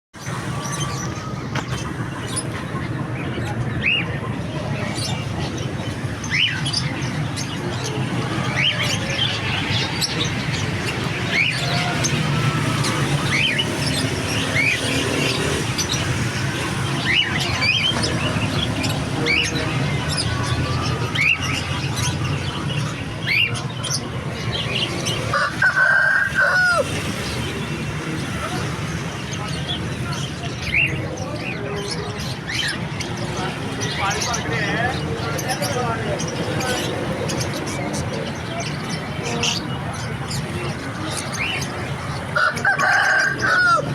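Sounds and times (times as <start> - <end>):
birds chirping: 0.2 - 43.9.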